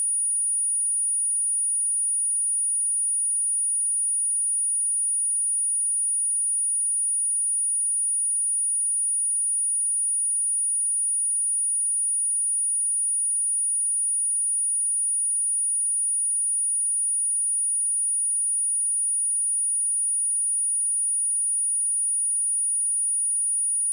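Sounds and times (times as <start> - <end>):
high-pitched sine-wave test tone: 0.0 - 23.9.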